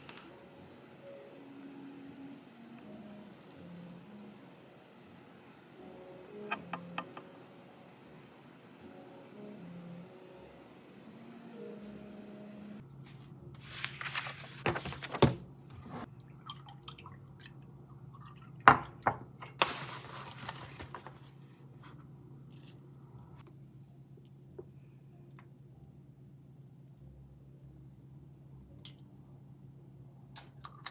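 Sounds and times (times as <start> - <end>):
low steady hum: 0.0 - 19.5, 20.9 - 30.9.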